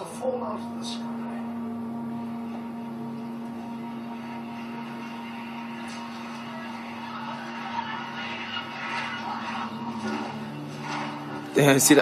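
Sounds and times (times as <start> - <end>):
steady held tone hum: 0.0 - 12.0.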